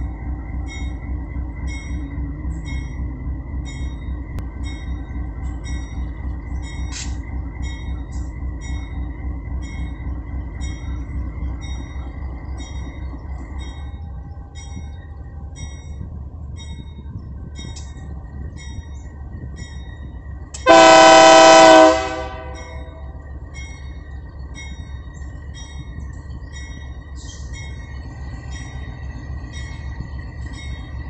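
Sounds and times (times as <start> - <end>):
locomotive engine rumbling: 0.0 - 31.0.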